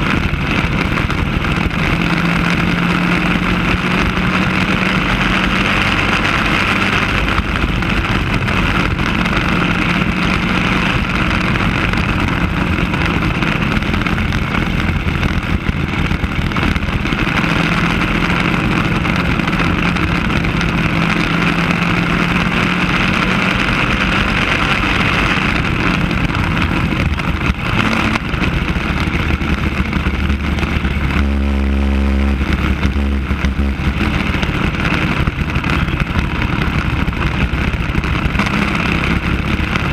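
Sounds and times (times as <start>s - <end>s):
kart engine running hard: 0.0s - 39.9s
wind rush on microphone: 0.0s - 39.9s.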